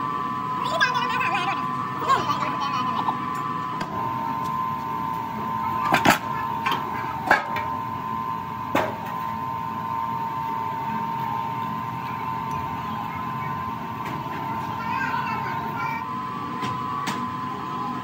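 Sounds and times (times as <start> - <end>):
high-pitched machine hum: 0.0 - 18.0.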